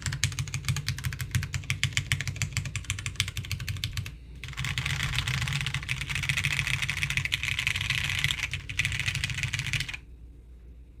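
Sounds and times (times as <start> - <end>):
fast typing on mechanical keyboard: 0.0 - 10.0.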